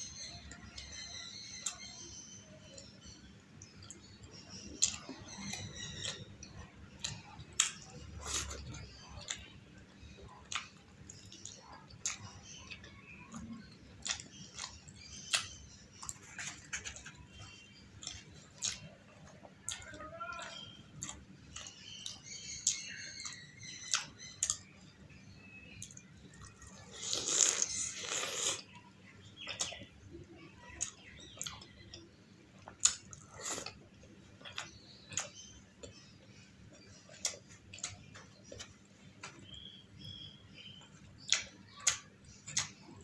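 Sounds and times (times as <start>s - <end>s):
wet chewing: 3.6s - 24.7s, 25.8s - 43.0s.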